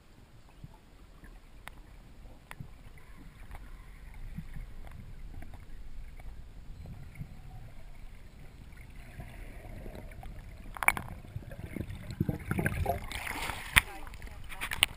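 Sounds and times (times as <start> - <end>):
underwater water rumble: 0.0 - 14.9
water bubbling and splashing: 0.0 - 14.9.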